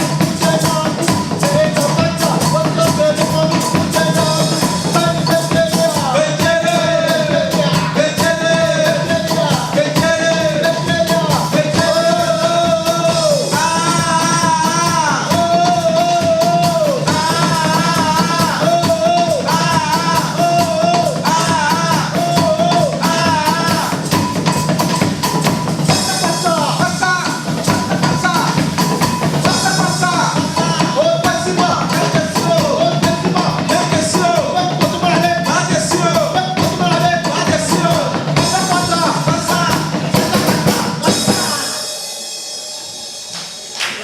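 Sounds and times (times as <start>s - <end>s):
song with band and drums: 0.0s - 44.0s.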